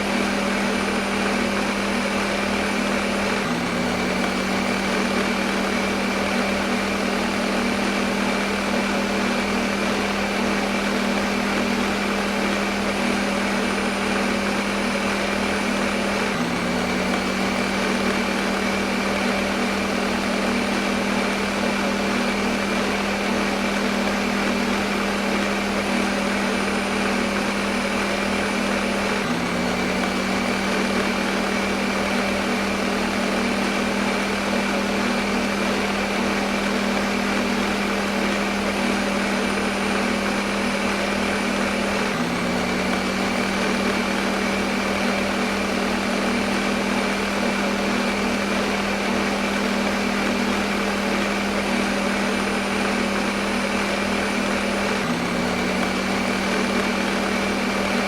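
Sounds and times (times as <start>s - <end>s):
blender motor whirring: 0.0s - 58.0s.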